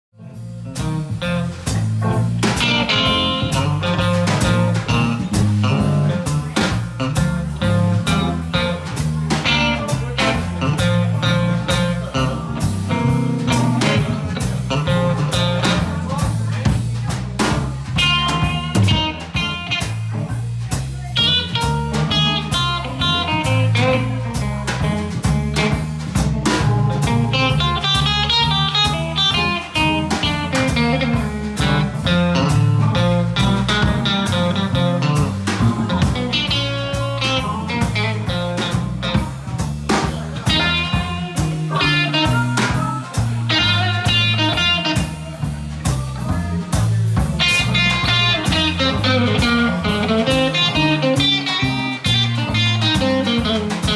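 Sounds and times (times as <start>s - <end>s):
electric bass: 0.1s - 53.9s
electric guitar lead lines: 0.2s - 16.7s, 17.5s - 45.7s, 47.1s - 53.9s
drum kit steady beat: 0.2s - 53.9s.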